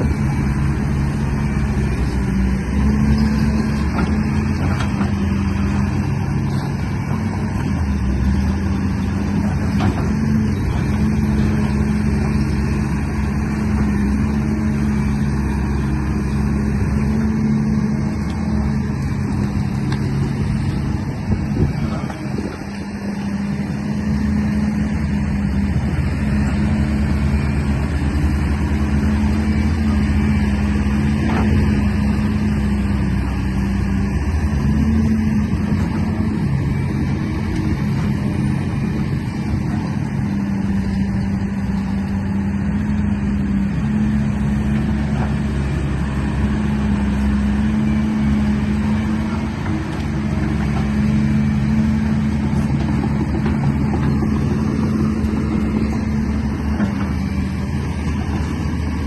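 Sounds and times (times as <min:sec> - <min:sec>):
vehicle motor humming: 0:00.0 - 0:59.0.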